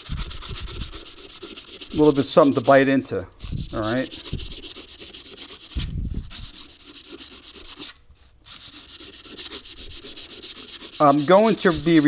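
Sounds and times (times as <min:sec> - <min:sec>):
sandpaper rubbing on metal: 0:00.0 - 0:12.0.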